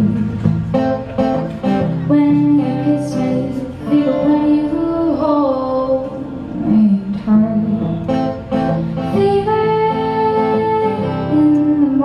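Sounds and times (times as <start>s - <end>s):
acoustic guitar: 0.0s - 12.0s
woman singing: 1.8s - 12.0s.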